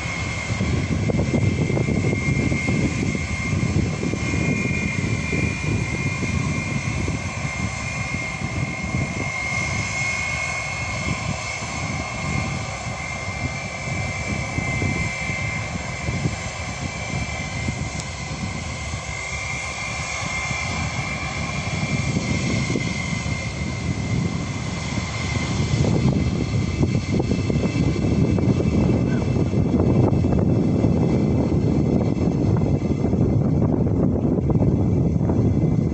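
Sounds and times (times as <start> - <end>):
jet engines whining: 0.0 - 35.9.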